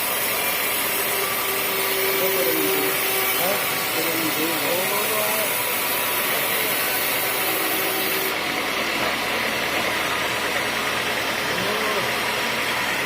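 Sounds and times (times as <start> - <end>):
high hiss: 0.0 - 12.5
sawmill machinery drone: 0.0 - 13.0.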